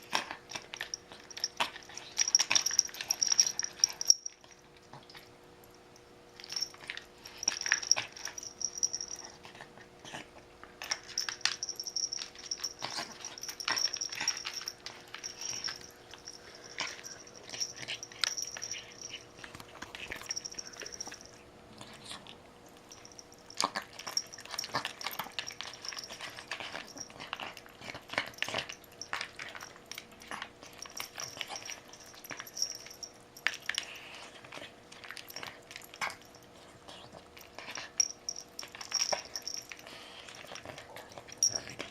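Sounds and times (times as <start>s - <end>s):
dog eating: 0.0s - 41.9s.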